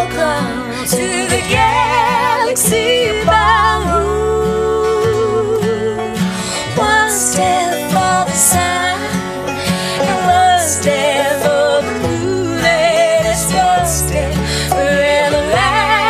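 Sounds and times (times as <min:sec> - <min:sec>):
acoustic guitar strumming: 0:00.0 - 0:16.0
plucked strings: 0:00.0 - 0:16.0.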